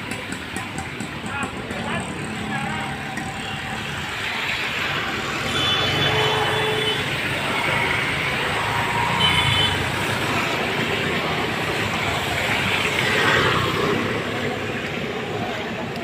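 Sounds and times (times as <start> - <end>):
road vehicles passing: 0.0 - 16.0.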